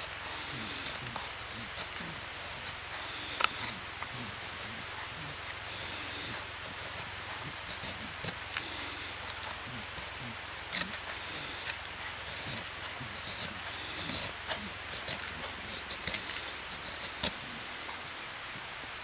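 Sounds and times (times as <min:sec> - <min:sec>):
knife scraping wood: 0:00.0 - 0:18.0
steady low hiss: 0:00.0 - 0:19.0.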